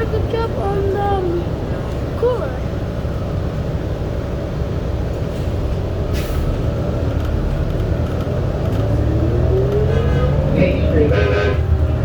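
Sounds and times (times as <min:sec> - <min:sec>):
subway train low rumble: 0:00.0 - 0:12.0.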